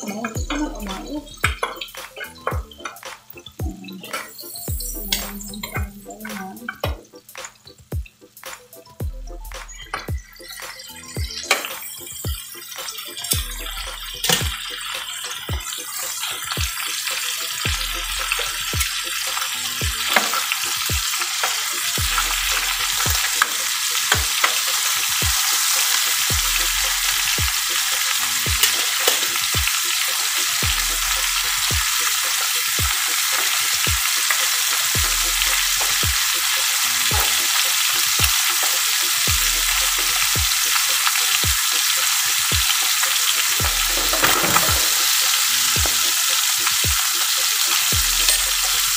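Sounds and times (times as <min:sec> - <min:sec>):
chicken sizzling in butter: 0:09.6 - 0:48.9.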